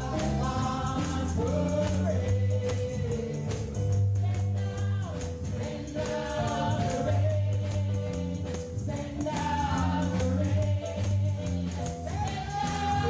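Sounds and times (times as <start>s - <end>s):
choir and congregation singing: 0.0s - 13.0s
gospel band playing: 0.0s - 13.0s
tambourine shaking: 0.0s - 13.0s.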